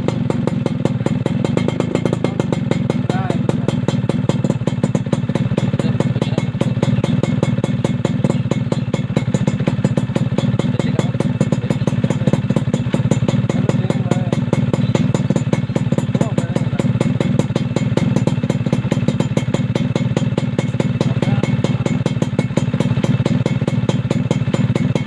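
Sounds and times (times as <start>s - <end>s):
two-stroke engine idling: 0.0s - 25.0s.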